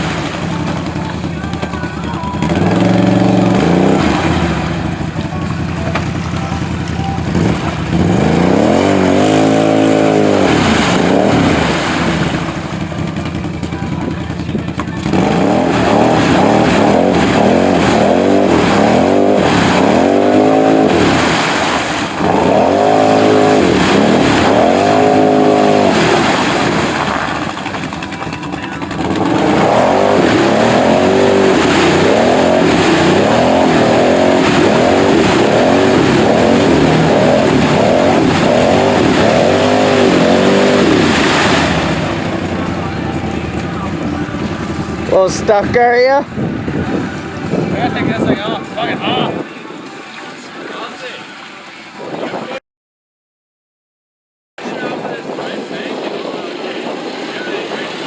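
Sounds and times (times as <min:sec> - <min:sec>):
engine revving: 0:00.0 - 0:49.4.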